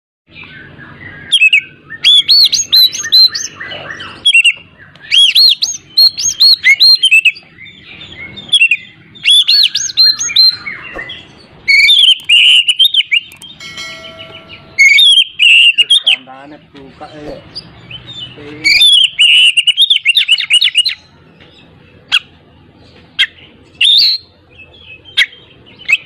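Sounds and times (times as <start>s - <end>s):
bird singing whistled phrases: 0.4s - 13.6s, 14.2s - 16.3s, 17.6s - 21.0s, 23.2s - 26.0s.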